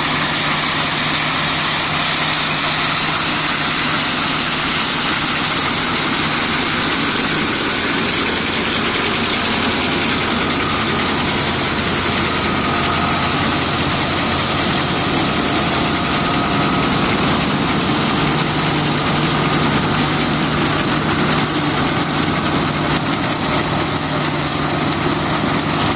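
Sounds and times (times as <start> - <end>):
combine harvester running: 0.0 - 25.9.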